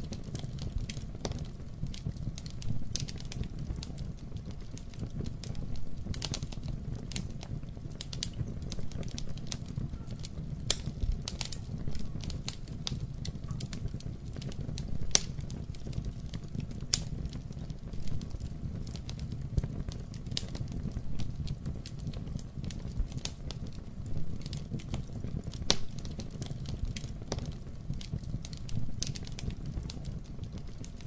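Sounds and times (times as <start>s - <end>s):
burning wood popping: 0.0s - 31.0s
fire crackling: 0.0s - 31.0s
low rumble of flames: 0.0s - 31.0s.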